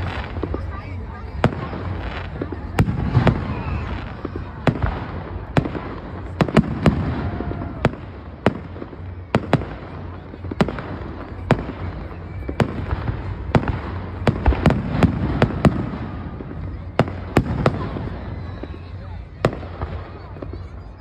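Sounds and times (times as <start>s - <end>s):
aerial fireworks bangs: 0.0s - 20.7s.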